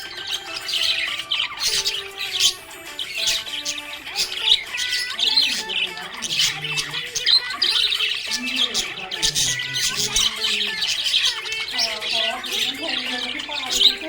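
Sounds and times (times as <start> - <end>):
budgerigars chirping and squawking: 0.0 - 14.0.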